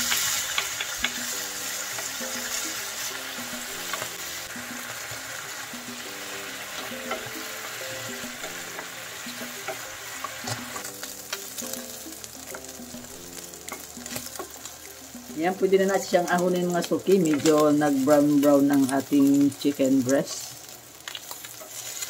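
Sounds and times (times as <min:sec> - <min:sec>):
background music: 0:00.0 - 0:21.0
chicken sizzling in oil: 0:00.0 - 0:22.0.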